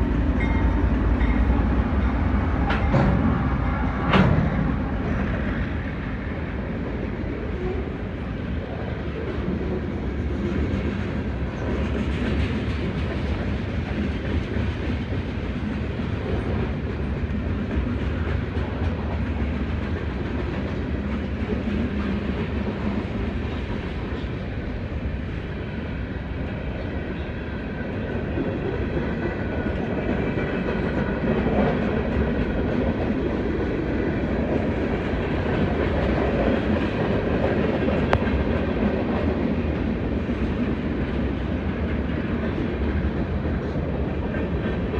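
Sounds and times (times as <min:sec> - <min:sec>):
rumble of steel wheels on rail: 0:00.0 - 0:44.9.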